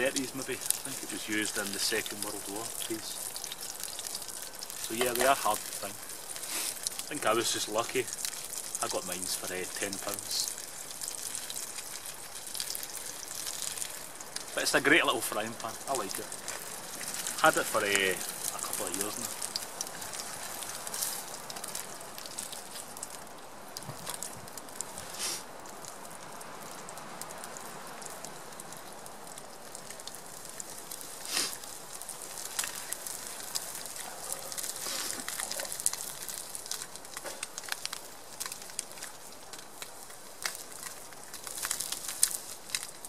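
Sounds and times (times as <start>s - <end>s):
meat sizzling in a pan: 0.0s - 43.0s
sharp pops and crackles: 0.0s - 43.0s.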